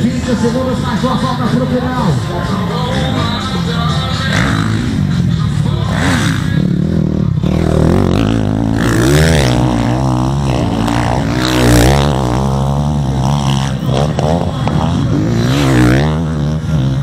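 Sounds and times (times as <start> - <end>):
motorcycles revving past: 2.6 - 17.0.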